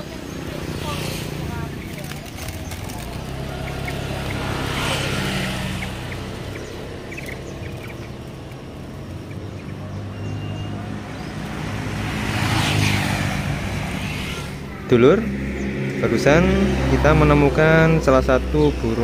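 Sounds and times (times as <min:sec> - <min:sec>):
caged birds chirping: 0:00.0 - 0:19.0
road traffic: 0:00.0 - 0:19.0.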